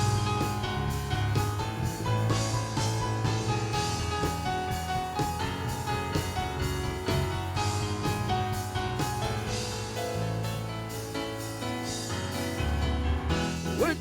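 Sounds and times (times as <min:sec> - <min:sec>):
drum kit beat: 0:00.0 - 0:11.2, 0:13.3 - 0:14.0
bass: 0:00.0 - 0:14.0.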